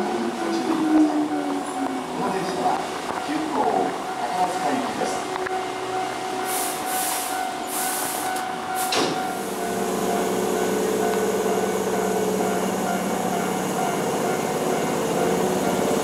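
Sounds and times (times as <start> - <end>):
electric train rolling: 0.0 - 16.0.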